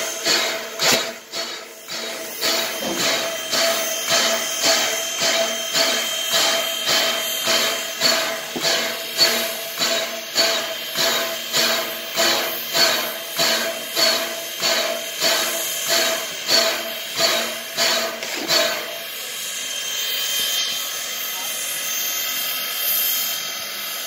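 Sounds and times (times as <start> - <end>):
steam locomotive metallic beat: 0.0 - 20.6.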